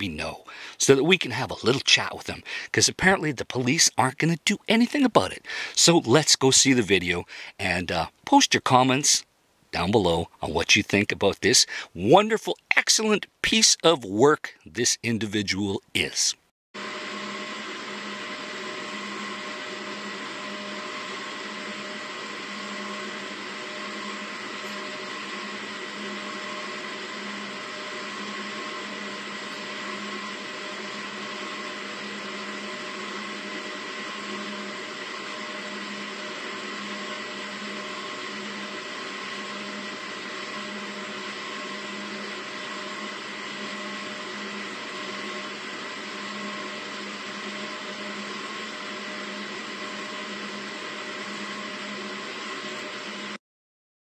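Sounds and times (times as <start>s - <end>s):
machine hum with hiss: 0.0s - 4.4s, 5.3s - 8.2s, 11.5s - 12.2s, 16.8s - 53.4s.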